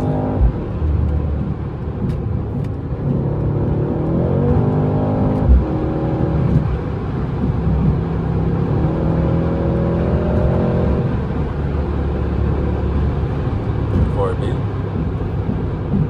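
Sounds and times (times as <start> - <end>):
low thump at gear upshift: 0.0 - 9.0, 10.1 - 16.0
car engine accelerating: 0.0 - 16.0.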